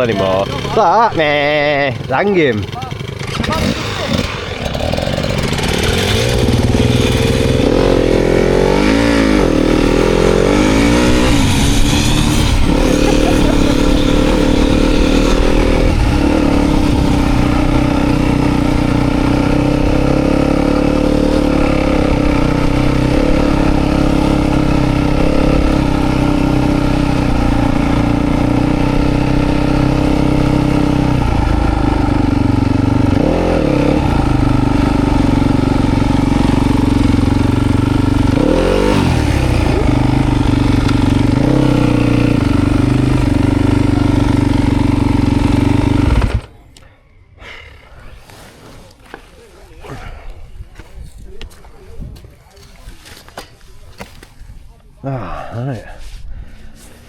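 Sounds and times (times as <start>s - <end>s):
dirt bike engine revving: 0.0s - 46.6s.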